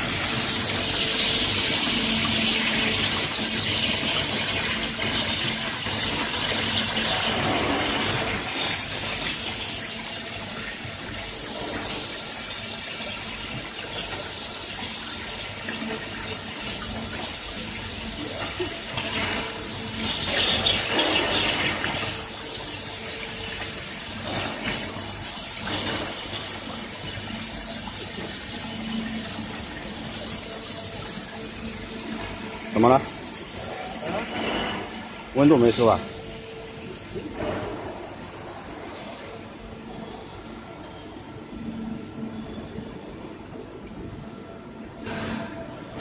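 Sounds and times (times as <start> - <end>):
water spraying and splashing: 0.0 - 39.3.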